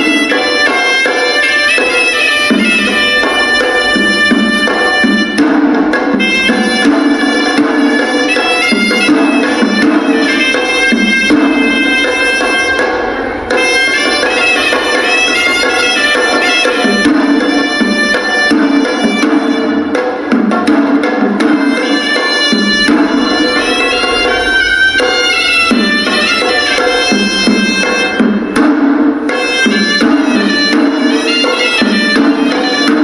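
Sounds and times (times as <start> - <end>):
nasal reed pipe melody: 0.0 - 20.0, 21.4 - 33.0
drums beating: 0.0 - 33.0.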